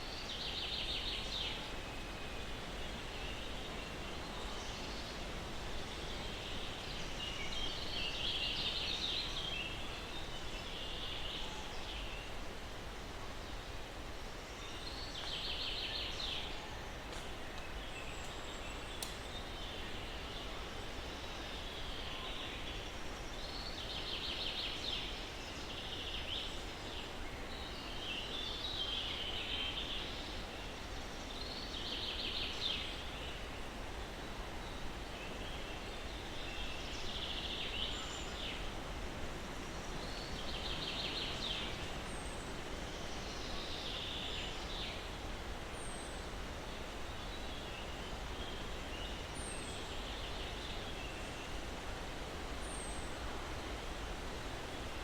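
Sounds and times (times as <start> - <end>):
breeze through pine trees: 0.0 - 55.0.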